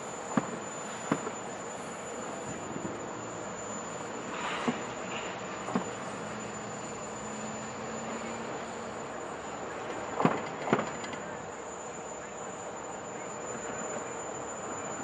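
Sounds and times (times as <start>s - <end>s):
diesel freight train rumbling: 0.0s - 15.0s.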